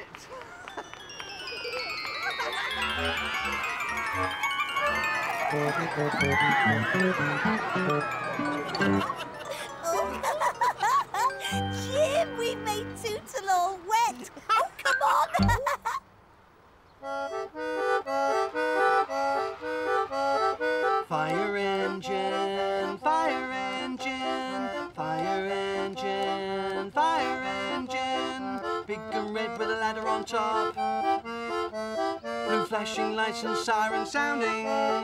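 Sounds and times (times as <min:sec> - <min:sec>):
concertina playing lively chords: 0:00.8 - 0:13.3, 0:15.1 - 0:15.6, 0:17.0 - 0:35.0.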